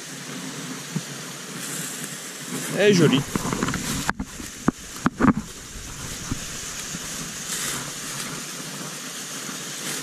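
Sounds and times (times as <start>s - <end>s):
waterfall rushing over rock: 0.0s - 10.0s.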